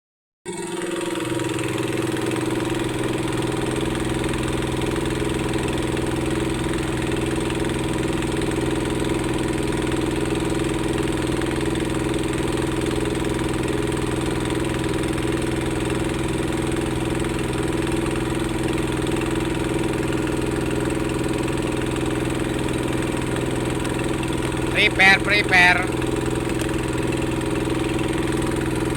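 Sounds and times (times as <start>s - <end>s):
engine idling: 0.5s - 28.9s.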